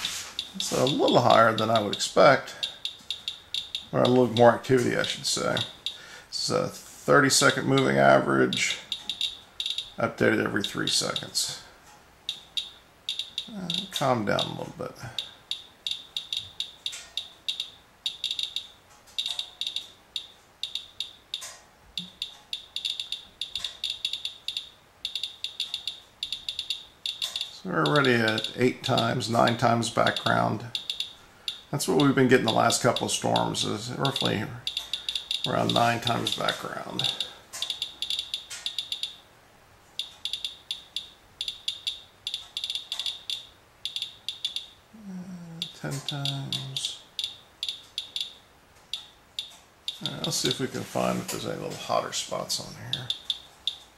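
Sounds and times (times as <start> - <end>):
geiger counter clicking: 0.0 - 6.1, 7.4 - 11.4, 12.3 - 39.3, 39.9 - 44.8, 45.6 - 50.6, 52.6 - 53.9.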